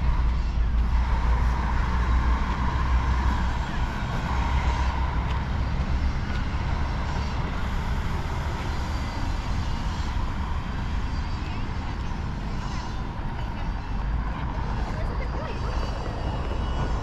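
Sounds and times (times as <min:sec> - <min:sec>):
road noise from passing cars: 0:00.0 - 0:17.0.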